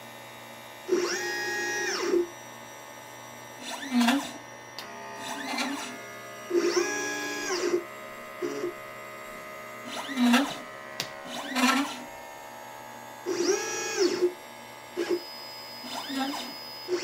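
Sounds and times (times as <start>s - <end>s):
stepper motors whining: 0.9s - 2.3s, 3.6s - 17.0s.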